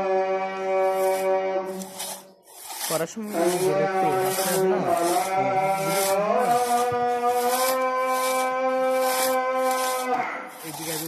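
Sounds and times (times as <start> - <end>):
cow mooing: 0.0 - 1.9, 3.4 - 10.6
crosscut saw rasping through wood: 0.8 - 11.0.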